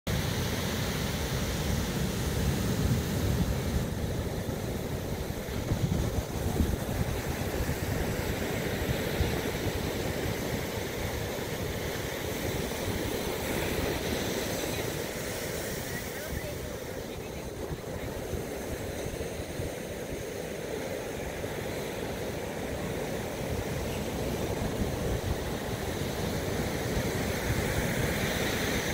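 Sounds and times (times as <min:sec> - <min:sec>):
ocean surf breaking: 0:00.1 - 0:28.9.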